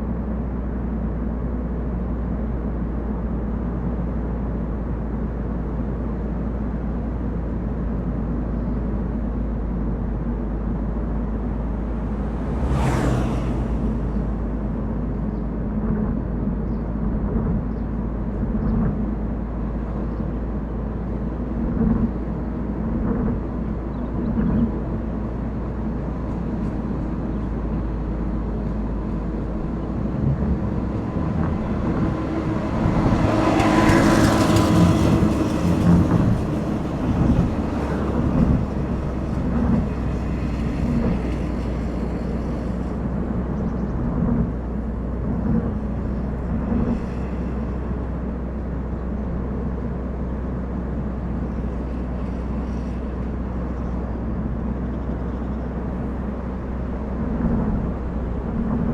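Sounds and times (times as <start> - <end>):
car driving on road: 0.0 - 58.9.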